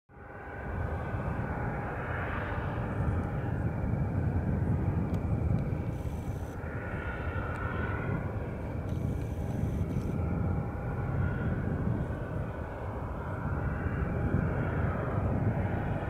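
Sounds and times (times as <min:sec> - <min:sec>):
jet engines rumbling and whining: 0:00.1 - 0:16.0.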